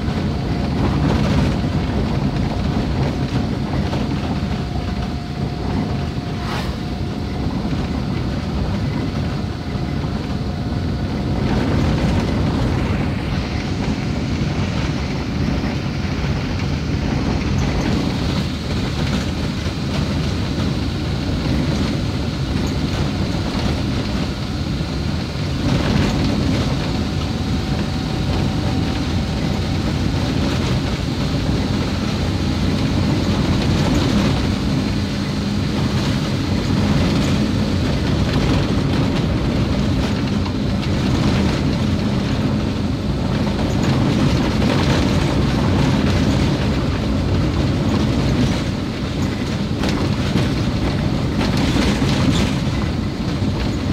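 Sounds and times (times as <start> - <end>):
vehicle rumbling on rough road: 0.0 - 53.9.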